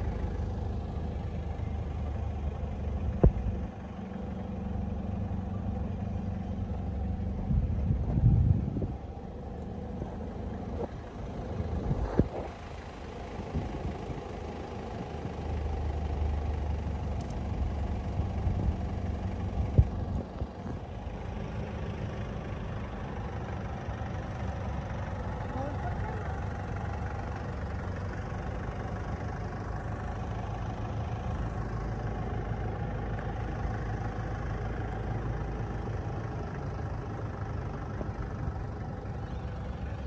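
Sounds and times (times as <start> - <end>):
engine idling rumble: 0.0 - 40.0.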